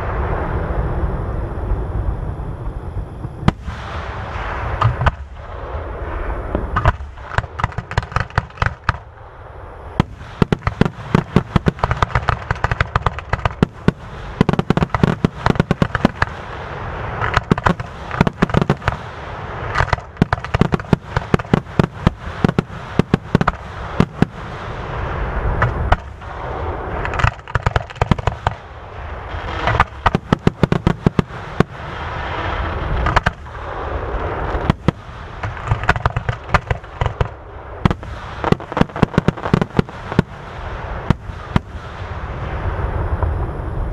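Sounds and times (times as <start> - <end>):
fireworks crackling: 3.2 - 43.4
fireworks bangs: 3.2 - 43.5.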